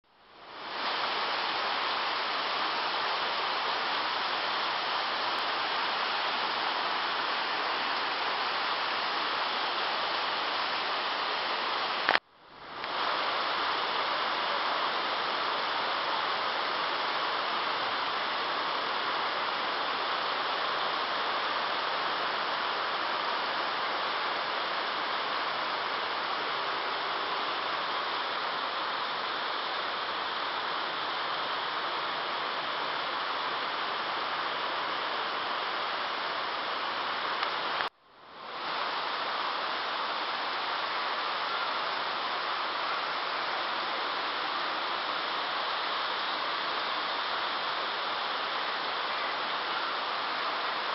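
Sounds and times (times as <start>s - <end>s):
steady rain falling: 0.1s - 50.9s.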